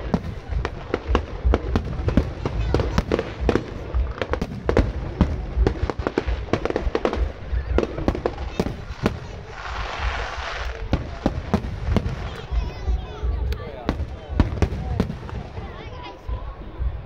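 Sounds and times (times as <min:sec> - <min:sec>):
fireworks hiss: 0:00.0 - 0:16.0.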